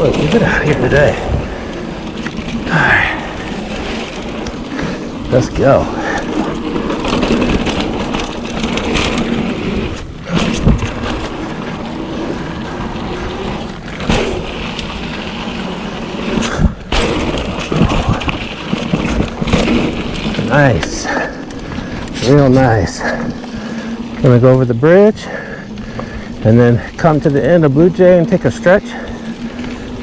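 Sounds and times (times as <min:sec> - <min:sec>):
bike knocking and rattling: 0:00.0 - 0:30.0
tyre and wind rush: 0:00.0 - 0:30.0.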